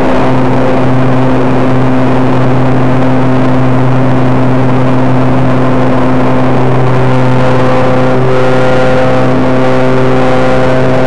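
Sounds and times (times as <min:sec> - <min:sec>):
model airplane motor and propeller: 0:00.0 - 0:11.0
wind rushing over microphone: 0:00.0 - 0:11.0.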